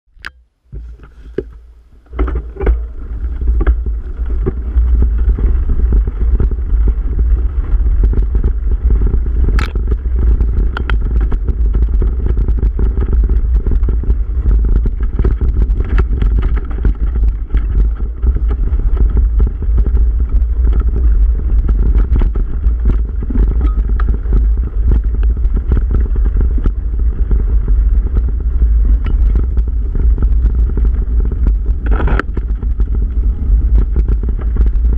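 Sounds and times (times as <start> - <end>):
wind rumbling on microphone: 0.1 - 34.9
bike frame rattling and clicking: 0.2 - 34.9.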